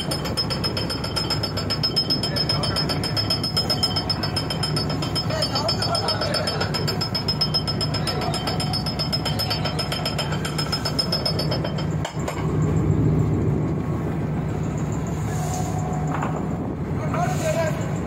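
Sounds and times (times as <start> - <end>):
boat engine clattering: 0.0 - 18.0.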